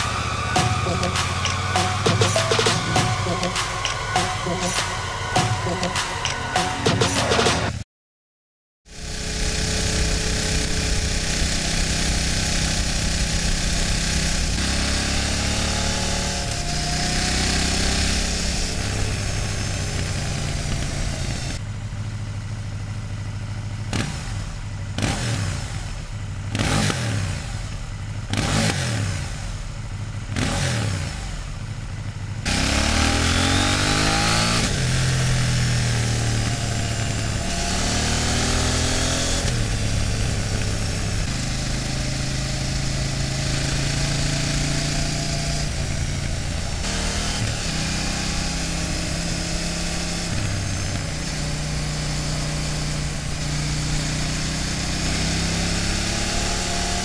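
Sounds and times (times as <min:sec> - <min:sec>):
motorcycle engine revving: 0:00.0 - 0:07.8, 0:08.9 - 0:57.0.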